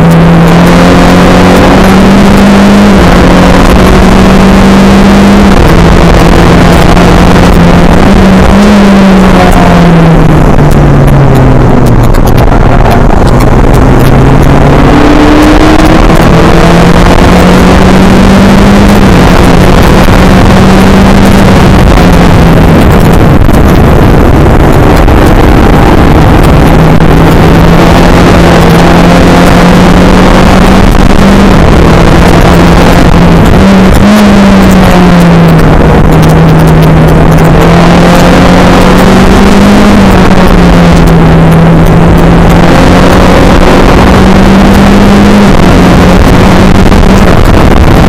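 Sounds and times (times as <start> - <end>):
race car engine running hard: 0.0 - 48.0
wind and road noise: 0.0 - 48.0.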